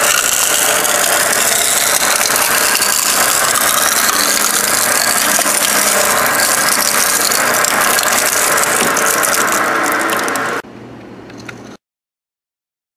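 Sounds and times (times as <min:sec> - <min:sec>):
shredder grinding wood: 0:00.0 - 0:10.6
shredder steady hum: 0:00.0 - 0:10.6.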